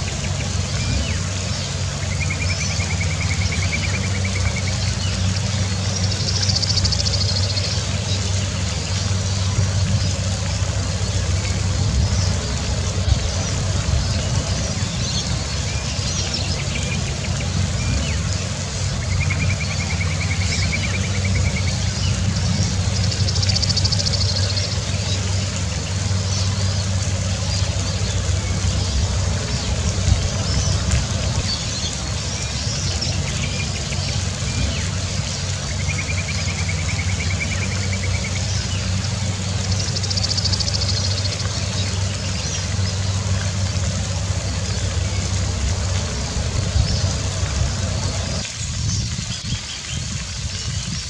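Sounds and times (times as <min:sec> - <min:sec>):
low background rumble: 0:00.0 - 0:51.0
low droning hum: 0:00.0 - 0:51.0.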